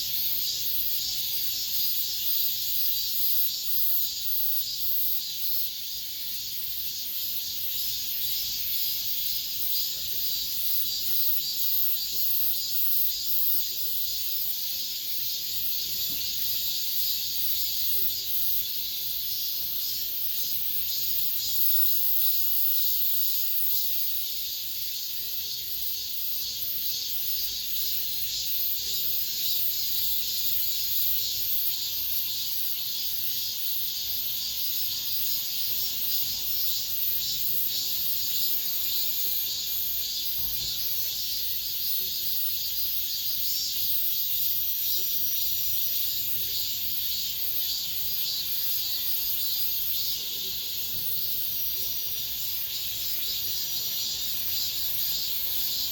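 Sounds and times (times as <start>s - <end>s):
cicadas buzzing: 0.0s - 55.9s.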